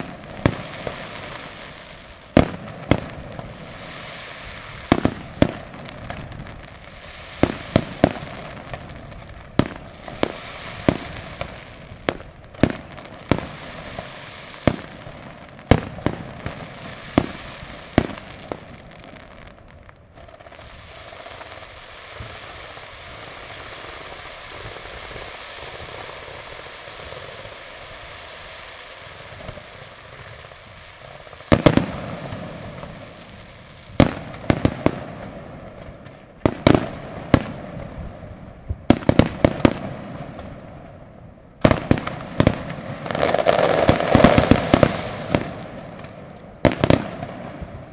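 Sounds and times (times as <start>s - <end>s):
fireworks bursting with sharp bangs: 0.0s - 47.9s.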